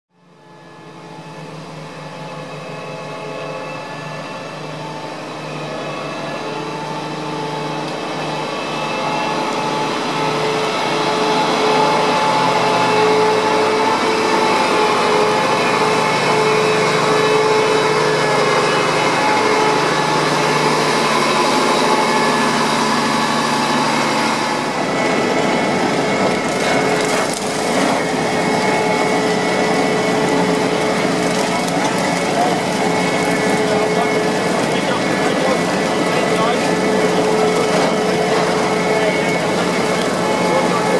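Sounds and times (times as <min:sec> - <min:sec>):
harvester engine droning and whining: 0:00.1 - 0:40.9.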